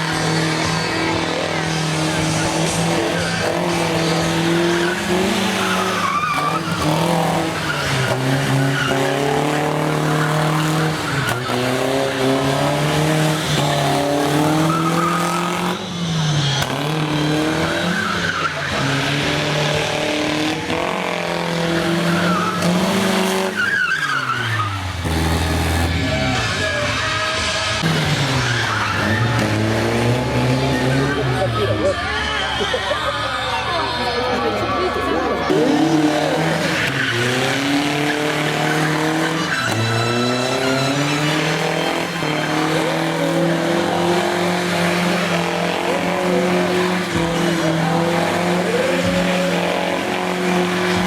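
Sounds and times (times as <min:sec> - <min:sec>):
monster truck engine revving: 0:00.0 - 0:51.0.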